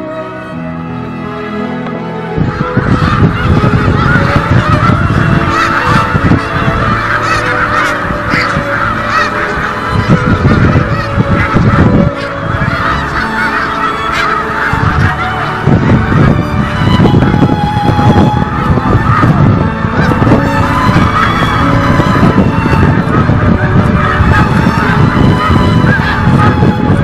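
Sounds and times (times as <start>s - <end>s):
geese honking: 0.0s - 27.0s.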